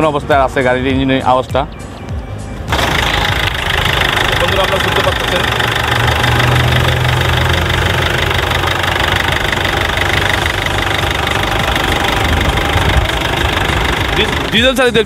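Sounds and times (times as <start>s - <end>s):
diesel engine idling: 2.7s - 15.0s.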